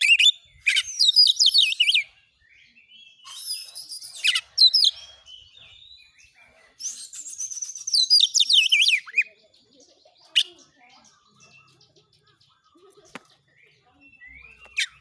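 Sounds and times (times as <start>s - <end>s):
bird singing sweeping notes: 0.0s - 15.0s.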